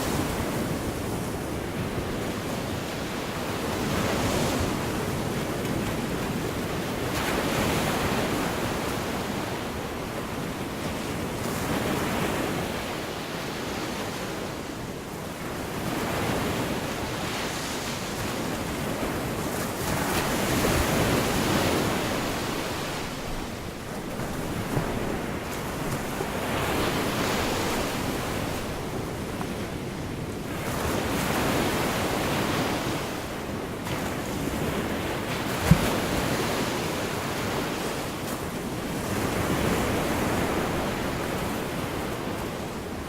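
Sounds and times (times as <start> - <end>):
small waves breaking on beach: 0.0 - 43.0.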